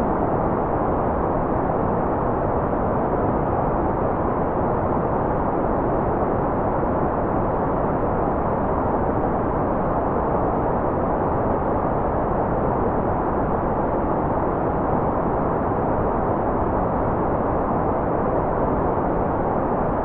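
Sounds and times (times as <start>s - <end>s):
muffled white noise: 0.0s - 20.0s.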